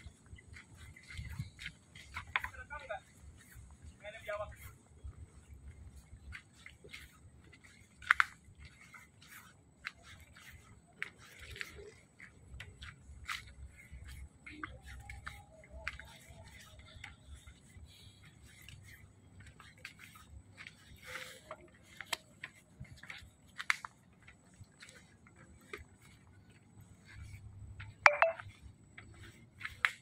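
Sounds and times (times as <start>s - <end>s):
footsteps on bamboo slats: 0.0s - 30.0s.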